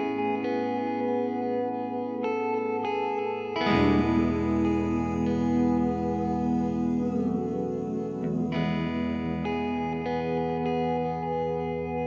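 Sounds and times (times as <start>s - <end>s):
slow guitar chords with chorus effect: 0.0s - 12.0s.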